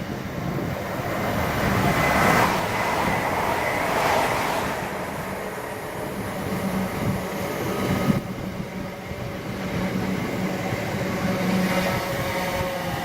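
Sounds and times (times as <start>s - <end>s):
train running on track: 0.0s - 13.0s.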